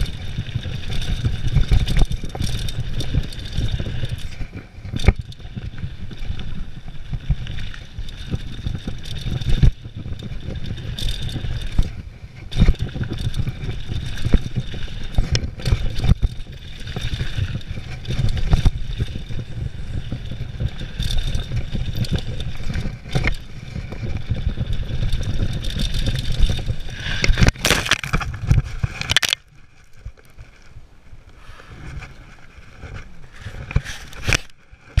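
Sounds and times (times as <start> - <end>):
bike clattering over dirt: 0.0 - 30.8
wind noise on microphone: 0.0 - 35.0.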